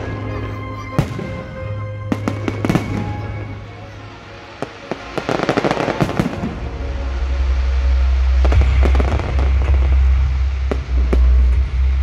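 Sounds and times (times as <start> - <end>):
deep continuous rumble: 0.0 - 12.0
fireworks bangs: 0.0 - 12.0
fireworks crackling: 0.0 - 12.0.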